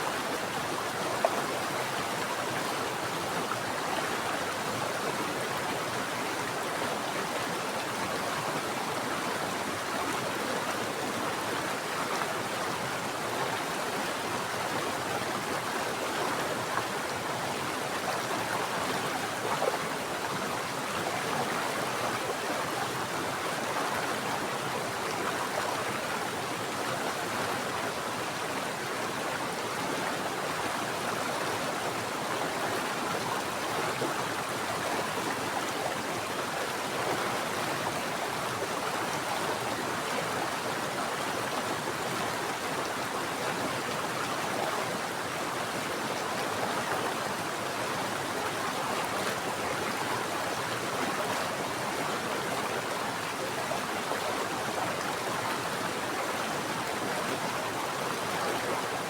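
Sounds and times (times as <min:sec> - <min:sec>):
mountain stream water flowing: 0:00.0 - 0:59.0.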